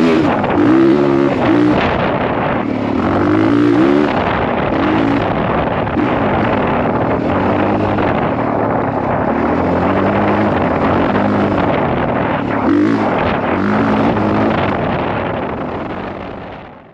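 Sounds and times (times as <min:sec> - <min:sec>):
motorcycle engine revving: 0:00.0 - 0:16.9
wind buffeting microphone: 0:00.0 - 0:16.9.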